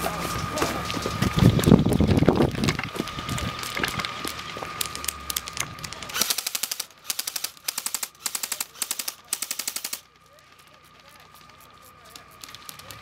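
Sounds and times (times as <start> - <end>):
electric rifle rapid clicking: 1.3 - 13.0.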